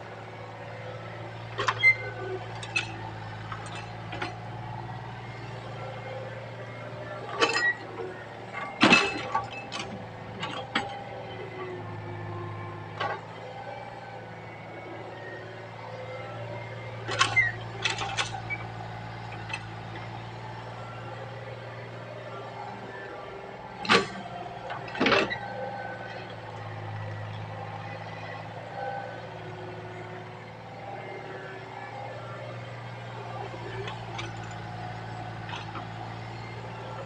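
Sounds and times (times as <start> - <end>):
excavator diesel engine humming: 0.0 - 37.0.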